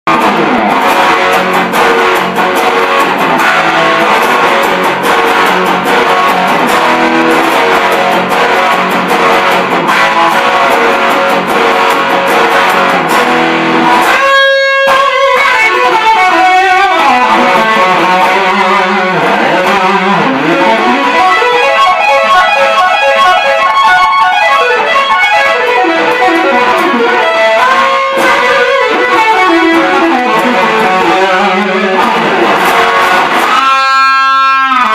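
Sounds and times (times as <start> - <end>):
distorted electric guitar lead: 0.0 - 34.9.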